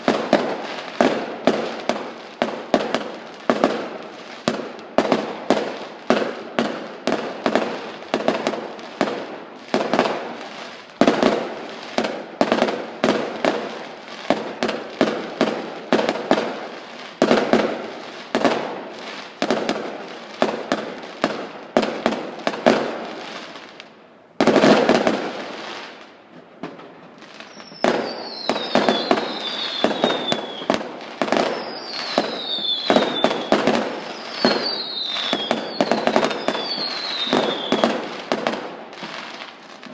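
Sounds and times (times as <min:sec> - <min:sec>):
fireworks whistling: 0:00.0 - 0:23.8, 0:24.4 - 0:39.9
fireworks banging: 0:00.0 - 0:39.9.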